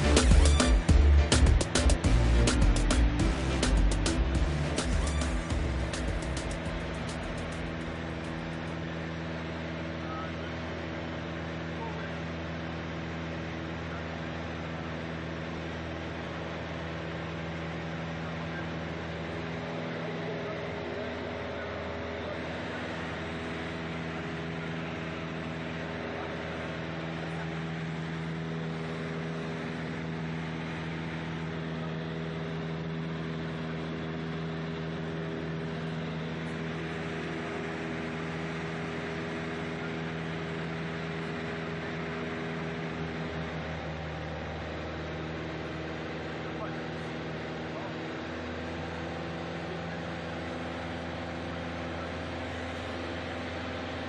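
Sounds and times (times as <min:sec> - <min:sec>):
airplane engine droning in cabin: 0:00.0 - 0:54.0.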